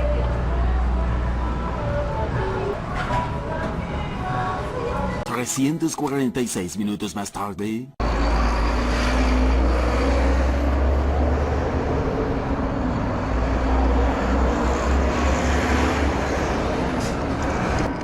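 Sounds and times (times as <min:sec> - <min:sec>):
street traffic: 0:00.0 - 0:05.8, 0:08.0 - 0:18.0.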